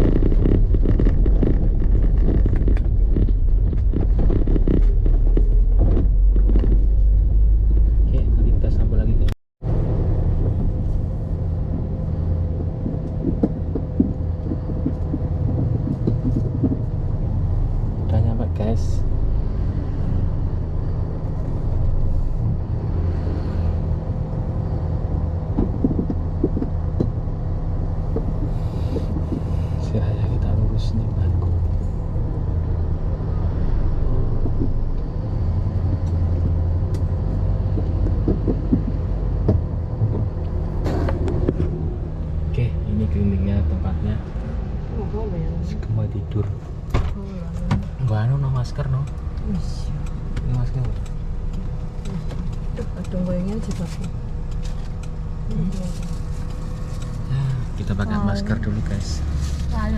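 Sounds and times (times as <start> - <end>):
road rumble: 0.0 - 59.9
vehicle engine running: 0.0 - 59.9.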